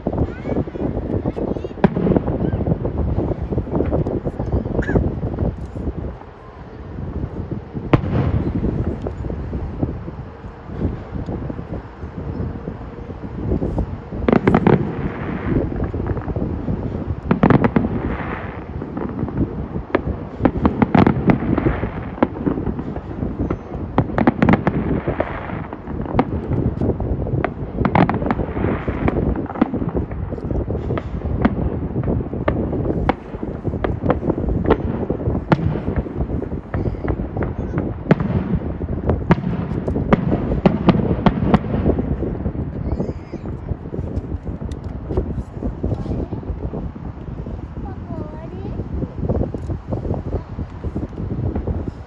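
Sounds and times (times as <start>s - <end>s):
fireworks bangs and pops: 0.0s - 52.0s.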